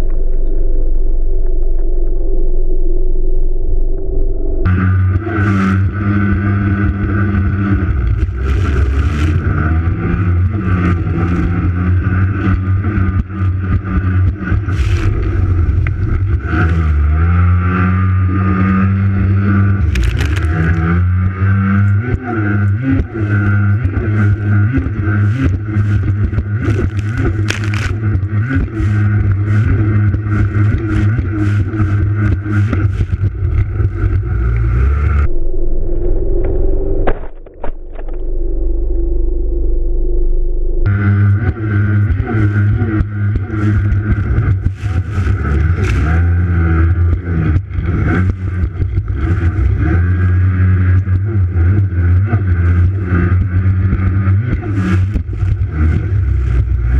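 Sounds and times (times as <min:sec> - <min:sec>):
jet ski engine at high revs: 0:04.7 - 0:35.3, 0:40.9 - 0:56.9.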